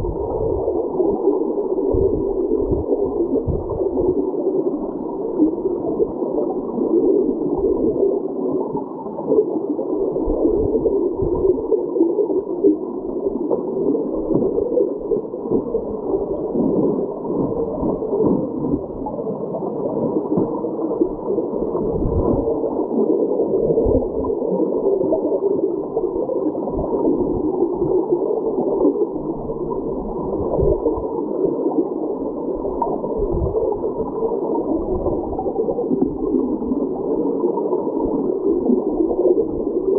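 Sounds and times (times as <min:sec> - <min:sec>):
underwater creek rushing and gurgling: 0:00.0 - 0:39.9.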